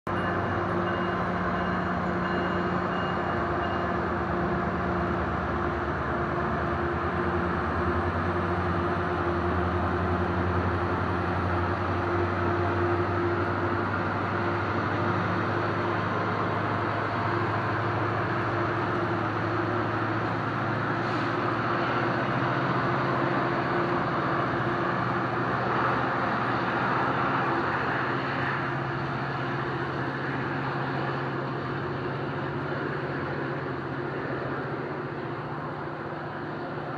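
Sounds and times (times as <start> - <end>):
train wheels rumbling on track: 0.1 - 36.9.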